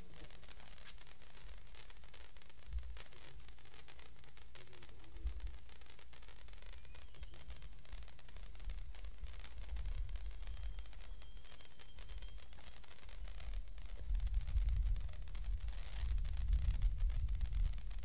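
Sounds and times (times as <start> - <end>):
sparkler hissing and crackling: 0.0 - 18.0.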